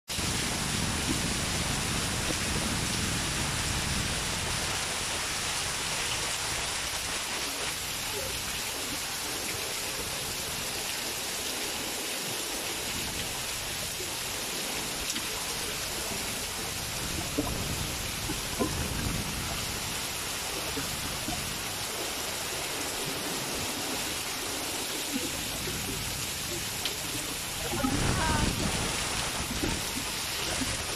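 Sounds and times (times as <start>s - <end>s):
heavy rain hissing: 0.1s - 30.9s.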